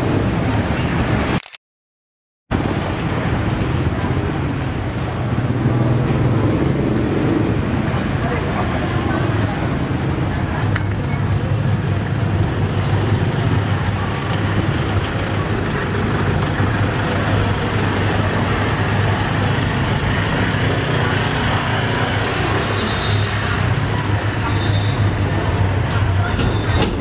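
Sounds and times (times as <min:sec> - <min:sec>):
road traffic with engine hum: 0:00.0 - 0:01.6, 0:02.5 - 0:27.0.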